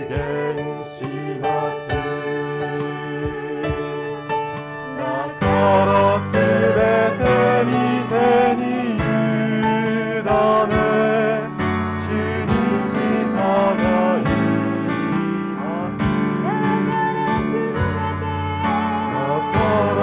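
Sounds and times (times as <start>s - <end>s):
group singing a worship song: 0.0s - 20.0s
keyboard accompaniment: 0.0s - 20.0s.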